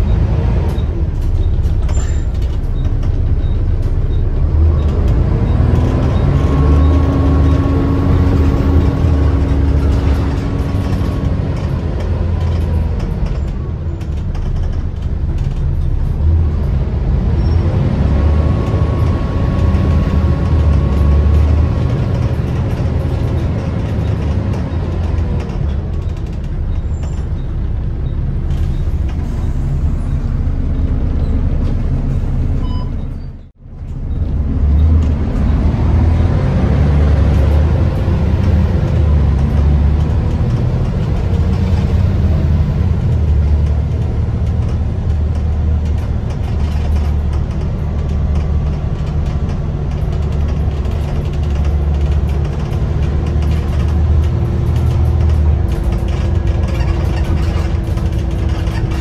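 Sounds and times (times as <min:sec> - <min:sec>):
bus engine accelerating: 0:00.0 - 0:59.0
bodywork rattles and clicks: 0:01.1 - 0:17.5, 0:18.3 - 0:29.2, 0:33.8 - 0:59.0.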